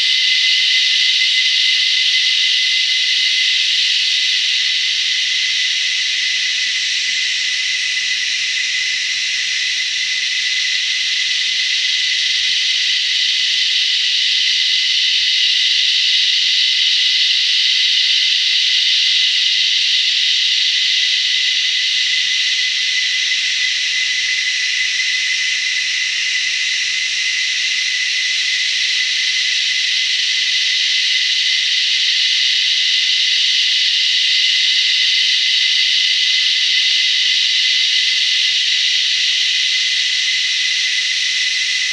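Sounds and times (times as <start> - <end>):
cicadas buzzing: 0.0 - 41.9.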